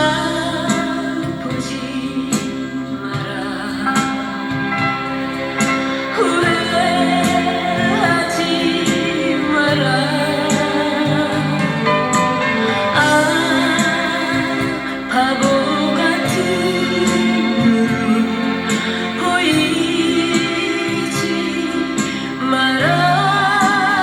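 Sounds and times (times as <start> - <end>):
band accompaniment: 0.0 - 24.0
regular drum beat: 0.0 - 24.0
woman singing: 0.0 - 24.0.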